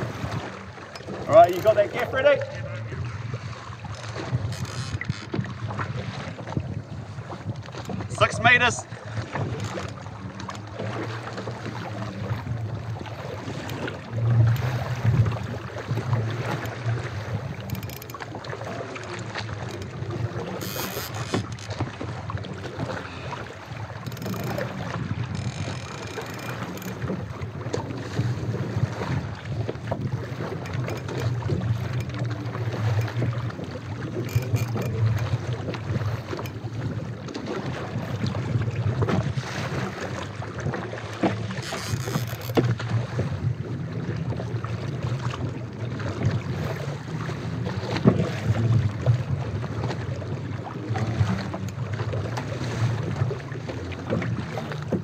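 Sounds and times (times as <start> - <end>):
small knocks and splashes: 0.0 - 2.5, 3.3 - 55.0
water slapping boat hull: 0.0 - 55.0.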